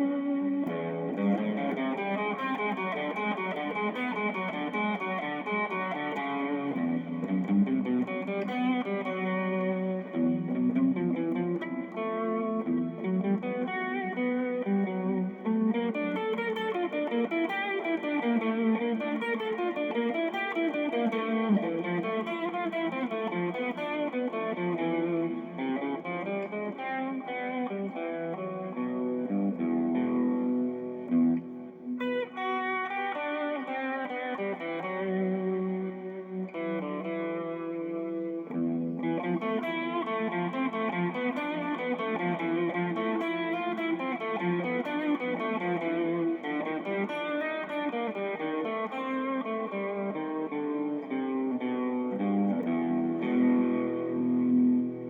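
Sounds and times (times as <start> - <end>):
electric guitar notes and chords: 0.0 - 55.0.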